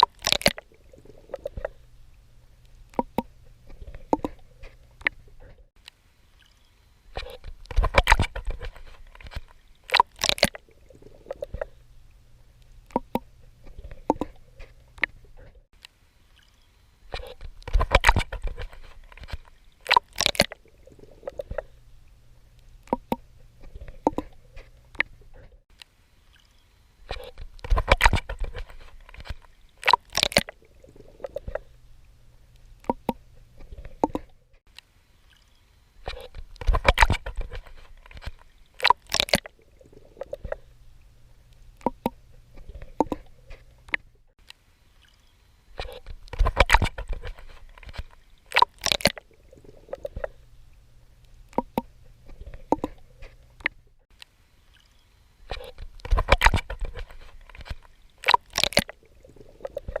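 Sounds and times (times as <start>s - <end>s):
faint low hum: 0.6s - 9.9s, 10.5s - 19.9s, 20.6s - 29.8s, 30.5s - 38.8s, 39.4s - 48.5s, 49.2s - 58.2s.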